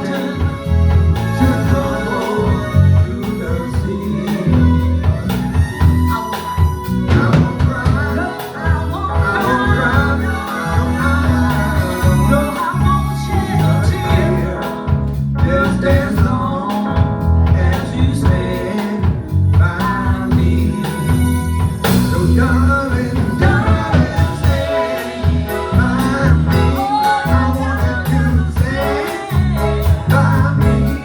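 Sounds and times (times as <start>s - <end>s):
band playing: 0.0s - 31.0s
bass line: 0.0s - 31.0s
person singing: 0.0s - 31.0s.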